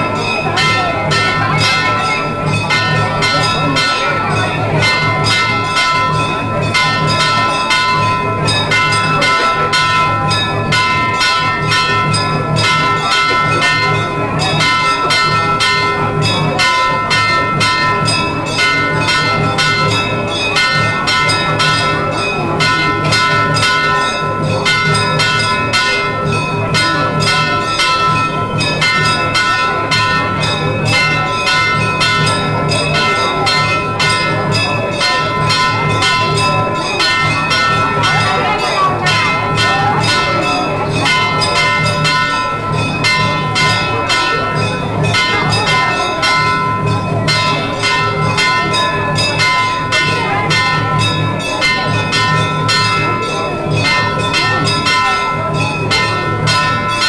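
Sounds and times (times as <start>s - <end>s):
temple bells ringing rapidly: 0.0s - 57.0s.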